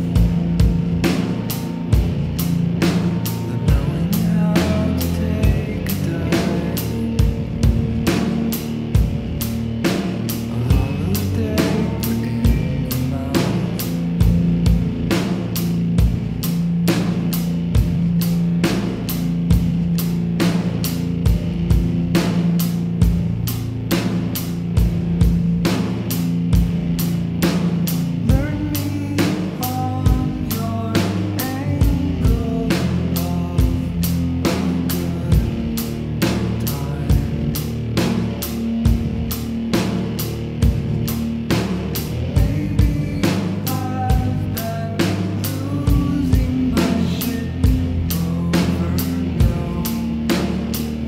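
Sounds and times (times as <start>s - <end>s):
drum-kit beat: 0.0s - 51.0s
held bass notes: 0.0s - 51.0s.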